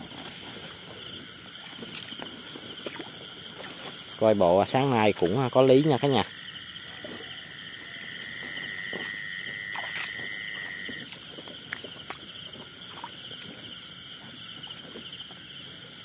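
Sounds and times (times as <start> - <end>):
clicks and rustles in grass: 0.0 - 16.0
night insects trilling: 0.0 - 16.0.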